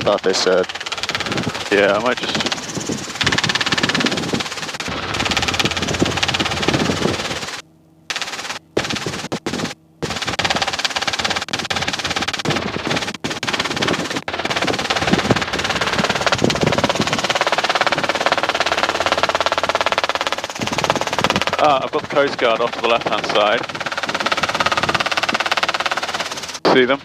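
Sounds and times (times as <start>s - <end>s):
helicopter engine and rotor drone: 0.0s - 27.0s.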